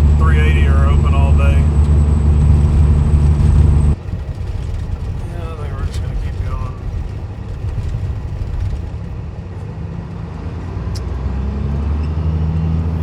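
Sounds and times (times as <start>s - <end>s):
diesel engine drone in cab: 0.0s - 11.2s.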